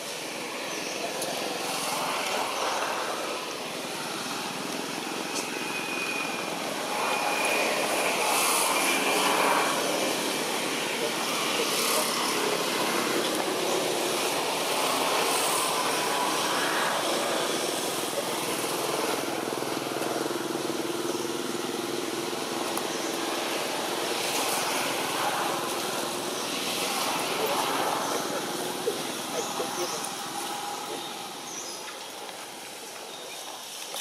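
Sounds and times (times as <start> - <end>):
distant engine drone: 0.0 - 33.8.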